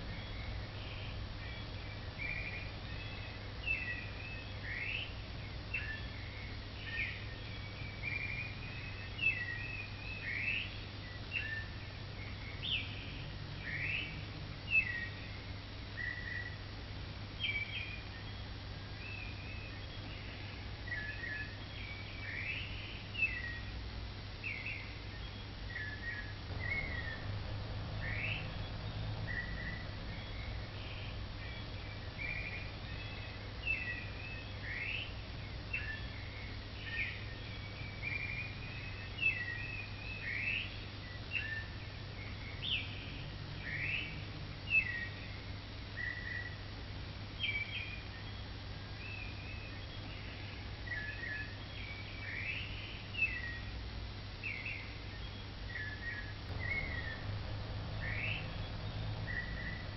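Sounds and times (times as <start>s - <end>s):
birds chirping: 0.0s - 59.9s
low steady hum: 0.0s - 59.9s.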